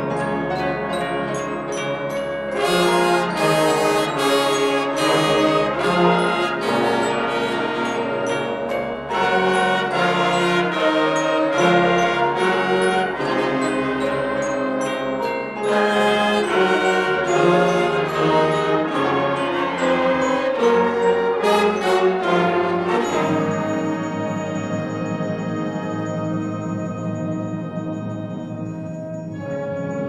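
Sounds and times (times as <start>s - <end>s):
glockenspiel strokes: 0.0s - 30.0s
concert band brass chords: 2.5s - 30.0s.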